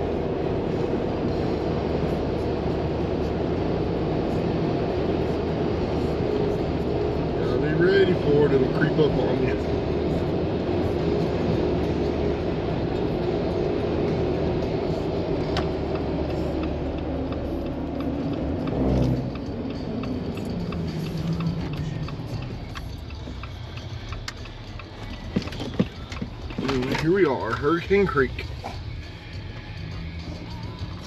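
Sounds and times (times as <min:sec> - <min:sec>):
tire noise on road: 0:00.0 - 0:31.0
vehicle engine driving: 0:00.0 - 0:31.0.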